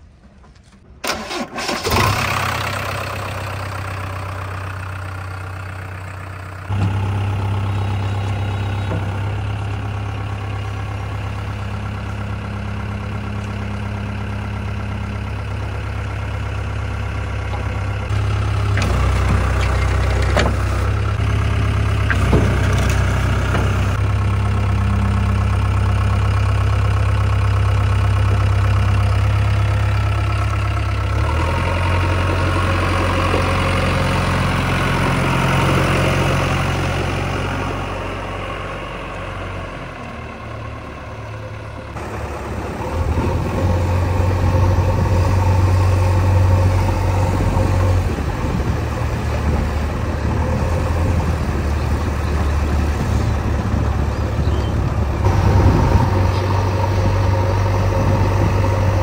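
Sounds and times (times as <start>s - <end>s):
diesel engine idling: 1.0s - 59.0s.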